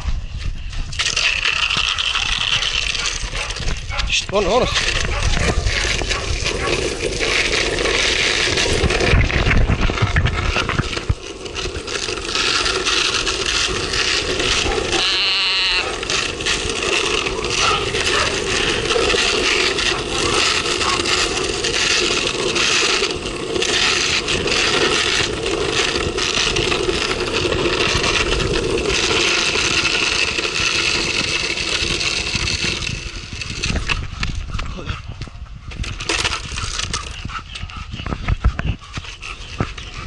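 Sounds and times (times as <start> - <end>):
longboard wheels rolling on pavement: 0.0 - 40.0.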